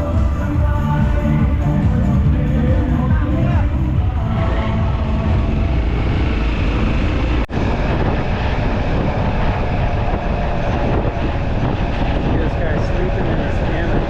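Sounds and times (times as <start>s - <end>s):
road rumble: 0.0s - 14.0s
wind rush: 0.0s - 14.0s.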